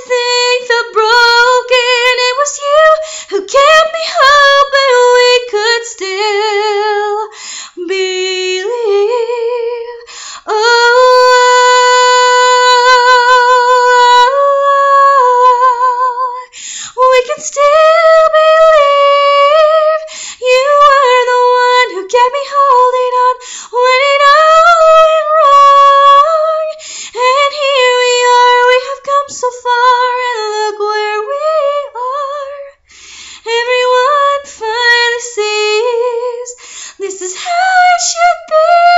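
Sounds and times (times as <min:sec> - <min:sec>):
woman singing a cappella: 0:00.0 - 0:38.9.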